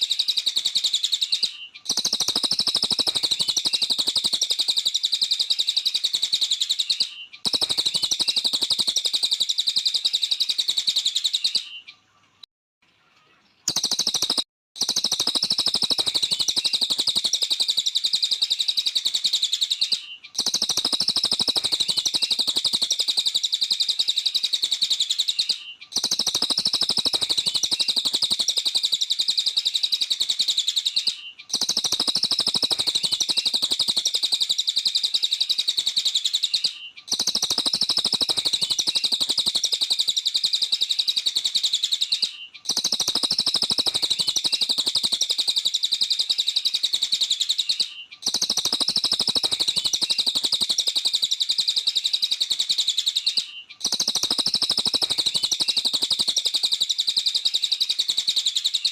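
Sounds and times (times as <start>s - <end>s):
songbird rapid chattering song: 0.0s - 12.4s, 13.0s - 58.9s.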